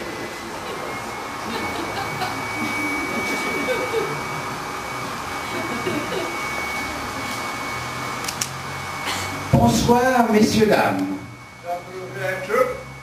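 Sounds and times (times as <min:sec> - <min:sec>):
noisy hum: 0:00.0 - 0:13.0
thin high steady tone: 0:00.0 - 0:13.0.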